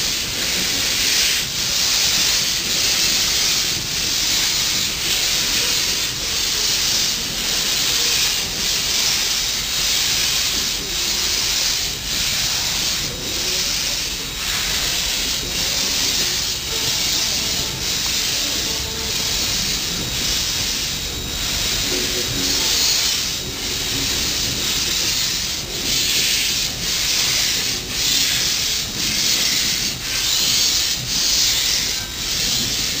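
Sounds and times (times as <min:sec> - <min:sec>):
steam locomotive hissing blasts: 0:00.0 - 0:33.0.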